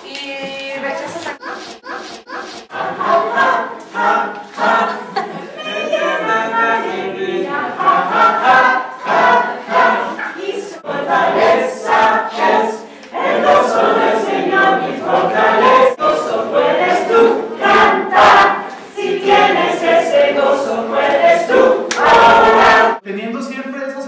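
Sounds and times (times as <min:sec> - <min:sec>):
choir singing: 0:01.3 - 0:23.0.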